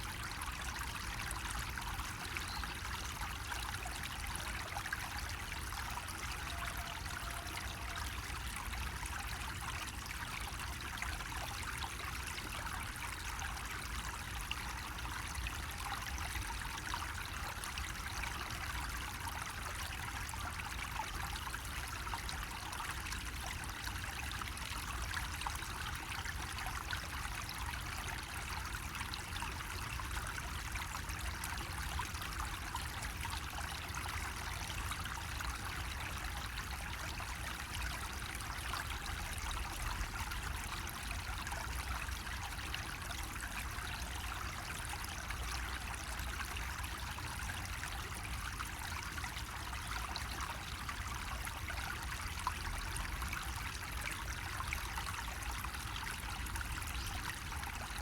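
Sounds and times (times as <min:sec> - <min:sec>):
water trickling from a spout: 0:00.0 - 0:58.0.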